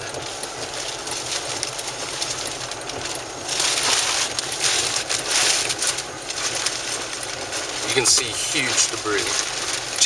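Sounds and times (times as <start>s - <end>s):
road and engine noise inside car: 0.0s - 10.0s.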